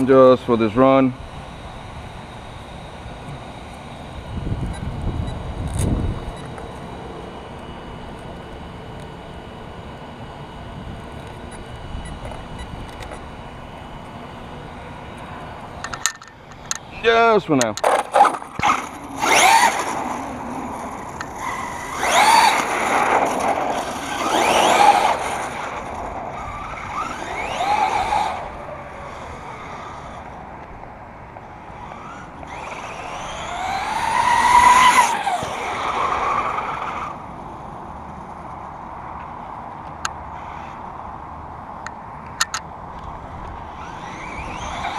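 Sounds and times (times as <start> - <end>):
electric motor whining: 0.0 - 37.4, 43.0 - 44.9.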